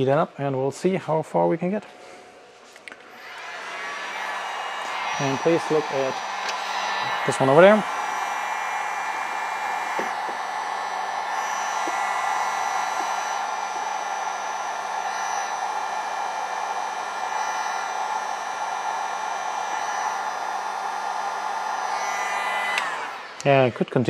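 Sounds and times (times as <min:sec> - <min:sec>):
heat gun blowing air: 0:03.1 - 0:23.8.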